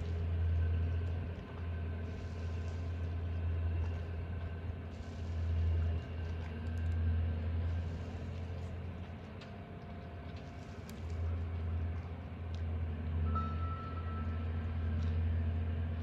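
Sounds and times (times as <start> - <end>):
ferry engines droning: 0.0 - 16.0
wind: 0.0 - 16.0.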